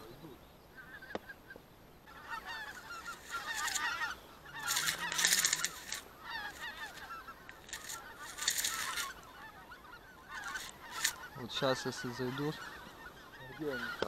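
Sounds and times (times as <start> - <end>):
geese honking: 0.7 - 14.0
grass rustling against microphone: 2.0 - 14.0.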